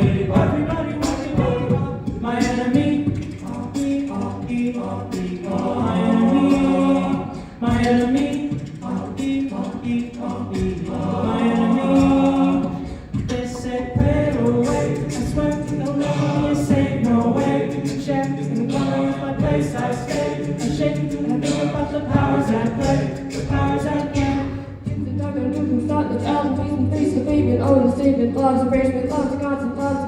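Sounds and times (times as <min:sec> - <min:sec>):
vocal group singing in harmony: 0:00.0 - 0:30.0.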